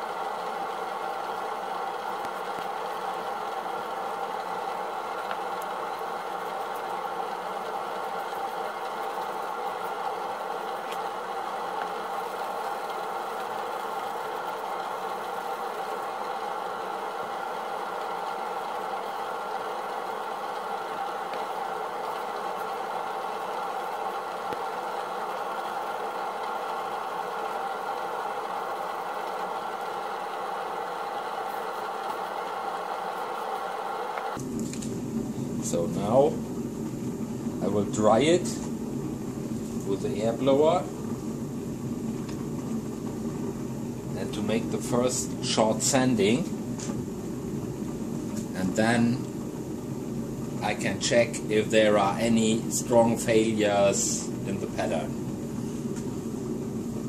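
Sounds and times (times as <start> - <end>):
steady machine drone: 0.0 - 57.0.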